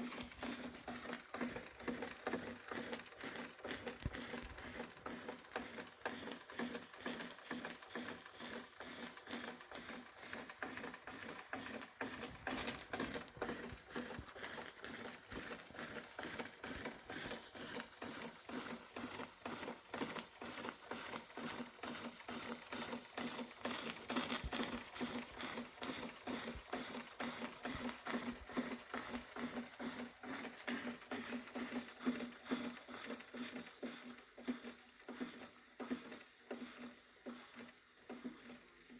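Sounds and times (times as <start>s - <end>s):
toy steam engine chuffing: 0.0s - 38.9s.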